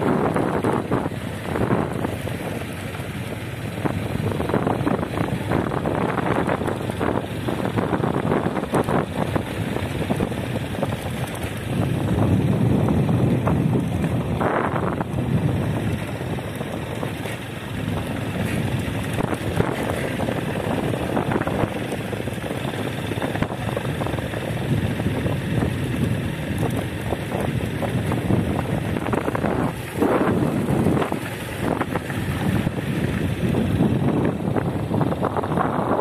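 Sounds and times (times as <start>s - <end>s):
moving vehicle rumble: 0.0s - 36.0s
wind buffeting microphone: 0.0s - 36.0s.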